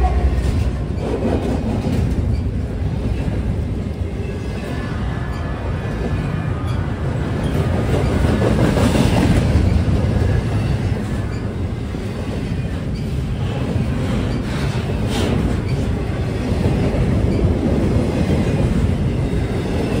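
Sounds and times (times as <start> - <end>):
freight train wheels rumbling: 0.0 - 20.0
train cars clattering over track: 0.0 - 20.0.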